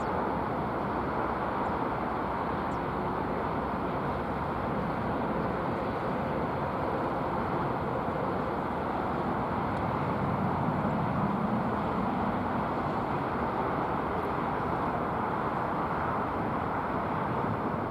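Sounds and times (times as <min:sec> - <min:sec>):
jet engine noise: 0:00.0 - 0:17.9.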